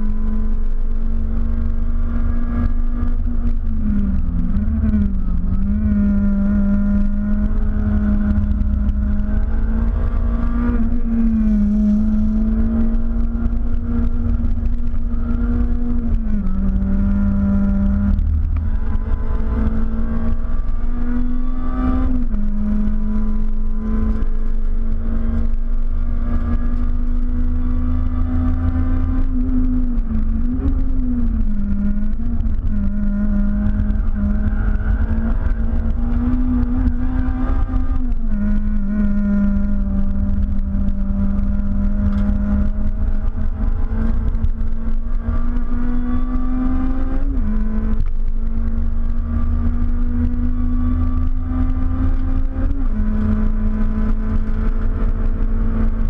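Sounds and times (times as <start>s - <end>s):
car engine revving with gear changes: 0.0s - 56.0s.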